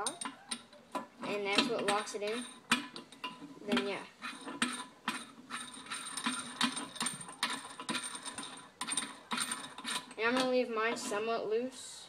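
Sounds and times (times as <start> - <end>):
metal nut clicking and clinking: 0.0 - 10.5.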